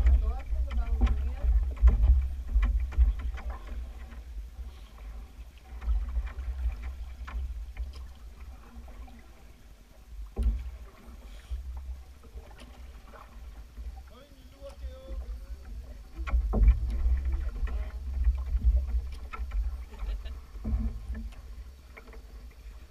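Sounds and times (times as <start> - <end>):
paddle strokes in water: 0.0 - 22.9.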